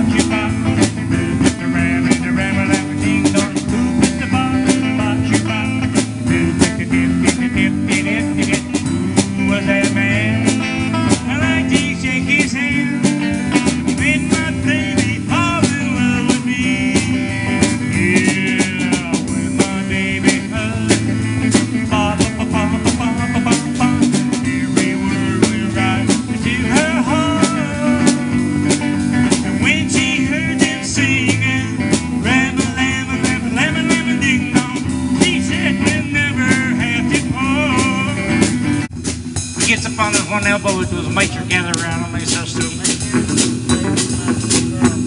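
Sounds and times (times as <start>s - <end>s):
bending electric guitar lead: 0.0s - 45.0s
live rock band music: 0.0s - 45.0s.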